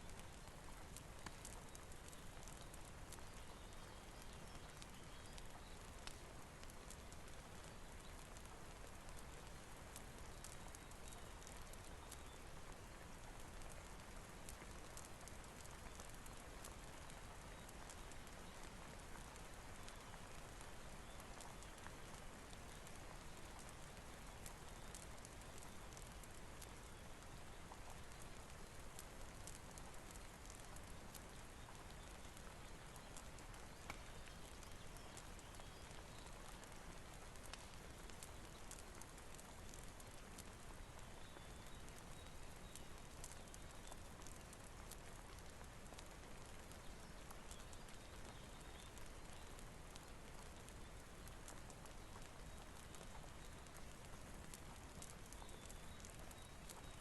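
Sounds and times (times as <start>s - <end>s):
rainfall hiss: 0.0s - 57.0s
wood fire crackling: 0.0s - 57.0s.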